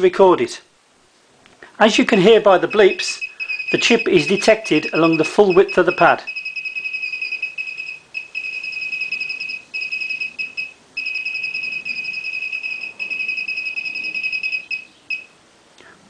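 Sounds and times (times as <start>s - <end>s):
rapid high electronic beeps: 2.2s - 15.3s.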